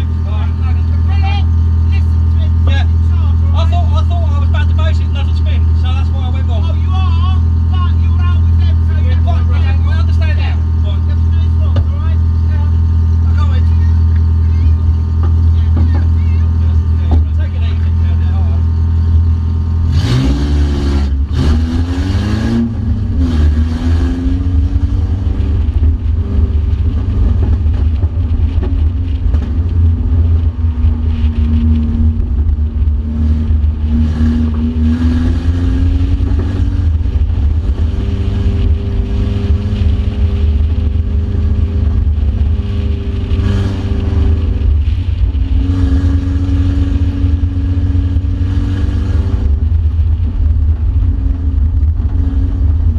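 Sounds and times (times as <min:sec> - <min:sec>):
racing car engine revving: 0:00.0 - 0:52.9.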